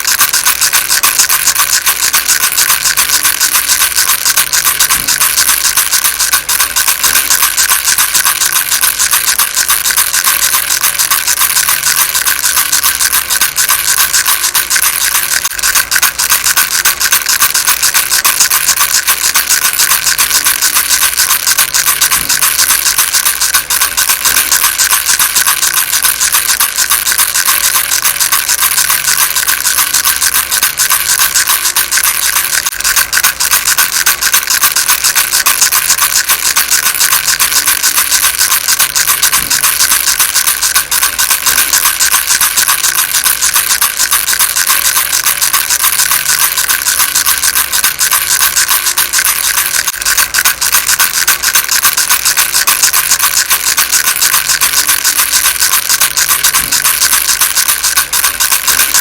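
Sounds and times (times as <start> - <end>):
baby rattle shaking: 0.0 - 59.0.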